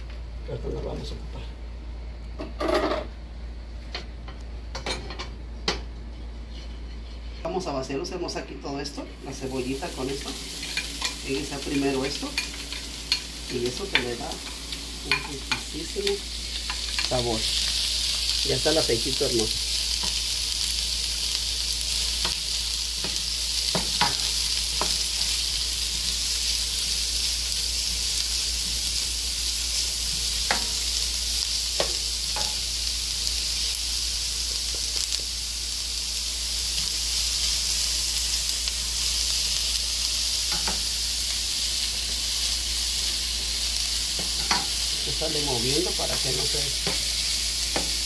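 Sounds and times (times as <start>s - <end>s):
onion sizzling in oil: 6.5s - 48.0s.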